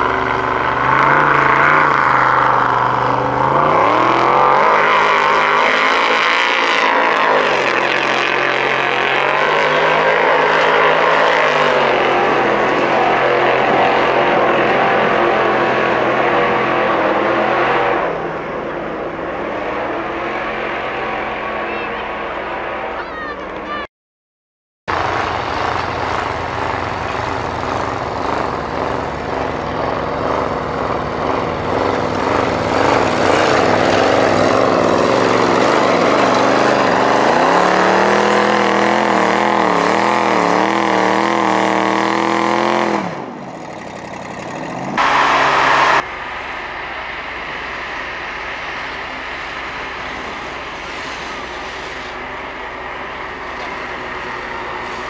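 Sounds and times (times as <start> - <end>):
truck engine revving hard: 0.0 - 23.0, 24.9 - 55.0.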